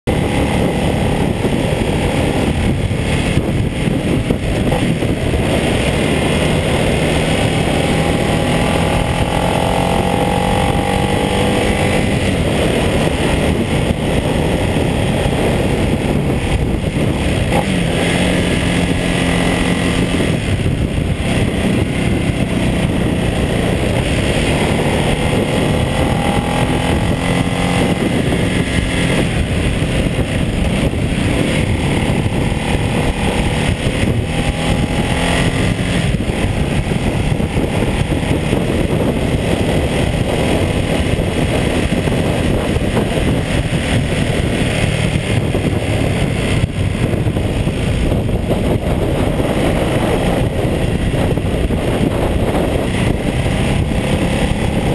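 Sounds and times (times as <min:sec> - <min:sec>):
motorcycle engine running: 0:00.0 - 0:54.9
wind rush: 0:00.0 - 0:54.9.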